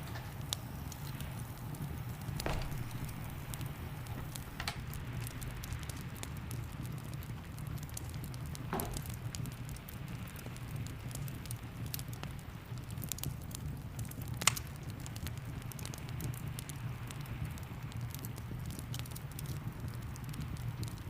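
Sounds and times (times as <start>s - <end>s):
rain pattering: 0.0s - 21.0s
wood fire crackling: 0.0s - 21.0s.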